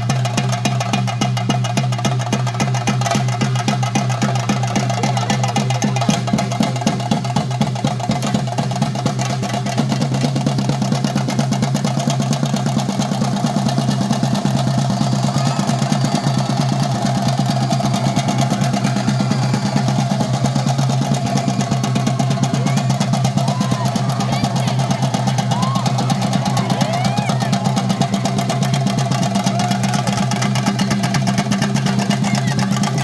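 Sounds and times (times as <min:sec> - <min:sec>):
rapid drumming: 0:00.0 - 0:33.0.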